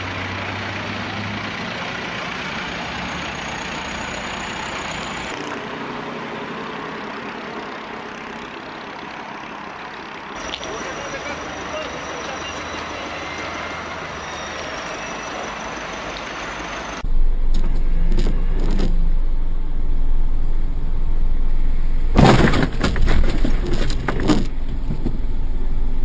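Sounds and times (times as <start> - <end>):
low vehicle rumble: 0.0 - 26.0
road and traffic noise: 0.0 - 26.0.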